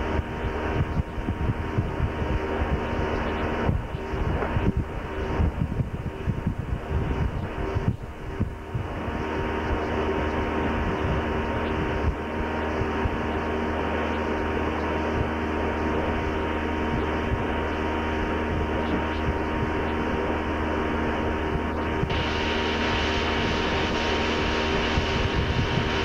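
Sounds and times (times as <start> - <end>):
motorboat engine running: 0.0 - 26.0.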